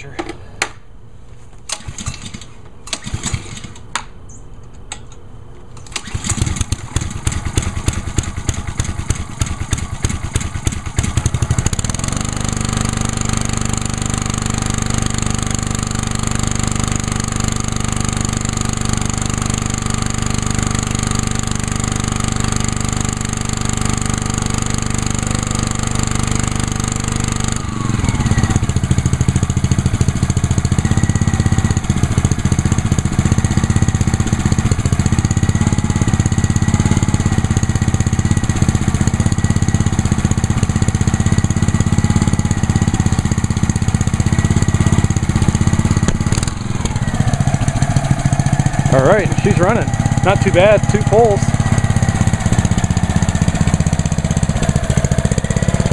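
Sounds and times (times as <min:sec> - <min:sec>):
pressure washer engine running: 0:03.0 - 0:03.7, 0:06.0 - 0:55.9.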